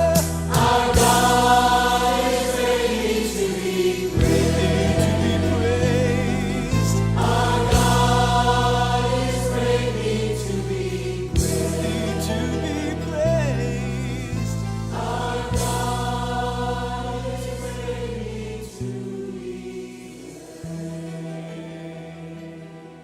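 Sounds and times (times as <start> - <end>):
steady bass line: 0.0 - 19.5
choir singing gospel song: 0.0 - 23.0
instrumental accompaniment: 0.0 - 23.0.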